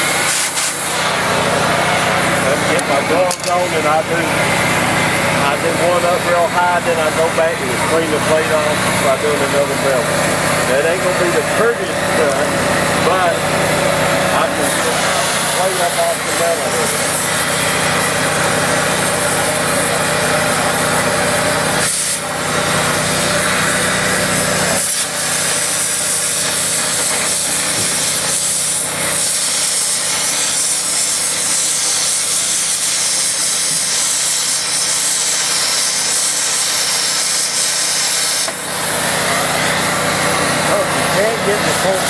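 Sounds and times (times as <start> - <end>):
cutting torch hissing: 0.0 - 42.0.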